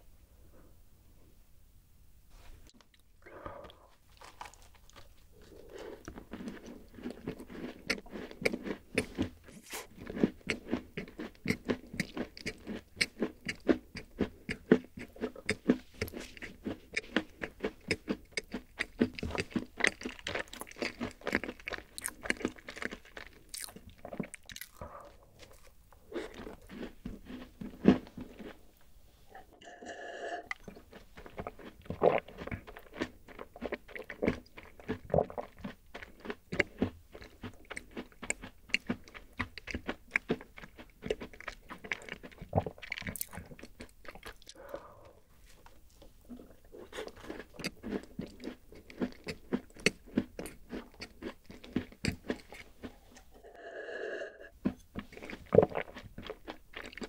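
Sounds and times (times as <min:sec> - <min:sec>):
crunchy cookie chewing: 0:02.9 - 0:28.6, 0:30.4 - 0:53.4, 0:54.6 - 0:57.0.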